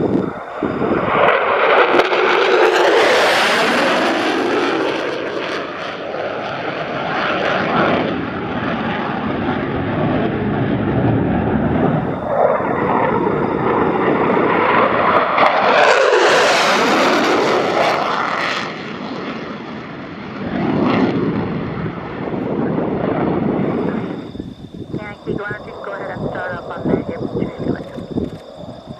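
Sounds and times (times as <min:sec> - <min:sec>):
jet flying past: 0:00.0 - 0:28.9.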